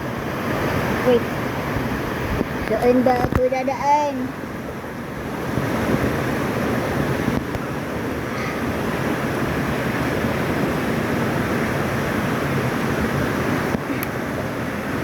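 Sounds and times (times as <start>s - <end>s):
rushing mountain stream: 0.0s - 15.0s.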